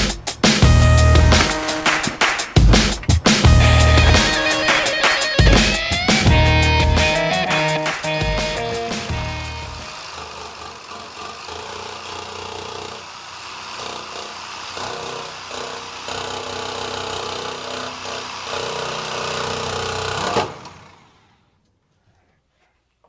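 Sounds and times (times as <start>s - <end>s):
reciprocating saw cutting: 0.0s - 21.3s.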